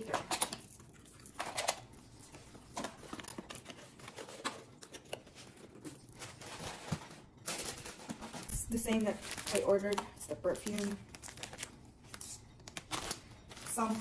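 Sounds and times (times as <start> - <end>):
paper packaging rustling: 2.8 - 14.0.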